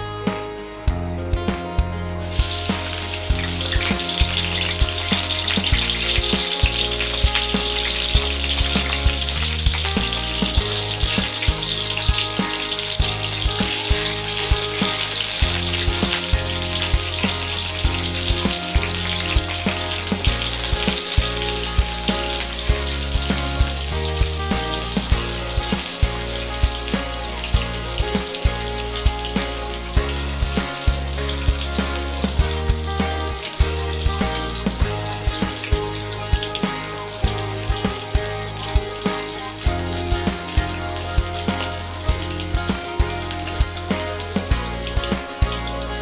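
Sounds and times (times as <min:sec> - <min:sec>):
background music with beat: 0:00.0 - 0:46.0
eggplant sizzling in hot oil: 0:02.1 - 0:46.0.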